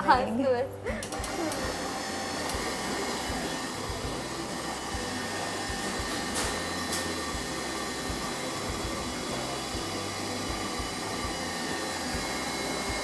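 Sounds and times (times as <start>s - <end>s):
electric stand mixer running: 1.0s - 13.0s.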